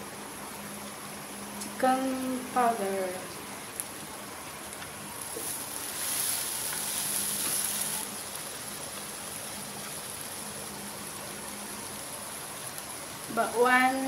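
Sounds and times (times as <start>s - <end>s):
pumpkin frying in a pan: 0.0s - 14.0s.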